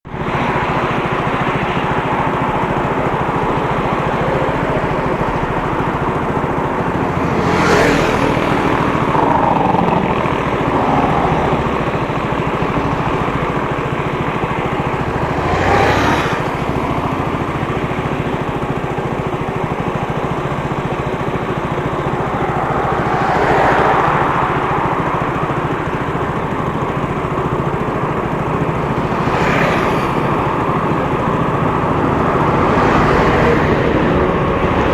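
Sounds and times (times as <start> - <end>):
motorcycle engine running: 0.1 - 34.9
road and wind noise: 0.1 - 34.9.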